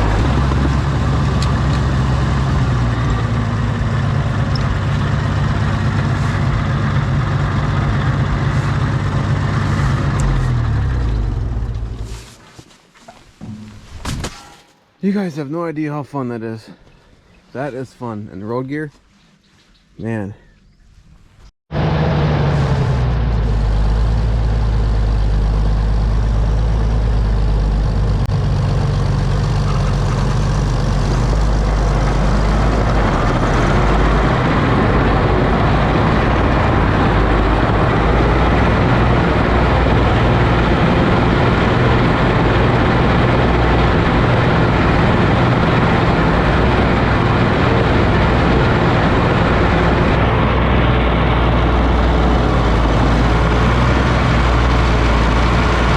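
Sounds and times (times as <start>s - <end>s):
tractor engine running: 0.0s - 12.6s, 21.7s - 55.9s.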